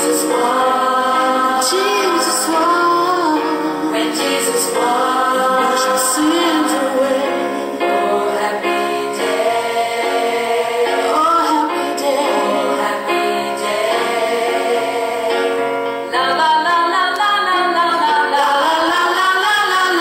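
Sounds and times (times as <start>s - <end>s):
group of voices singing: 0.0s - 20.0s
musical accompaniment: 0.0s - 20.0s.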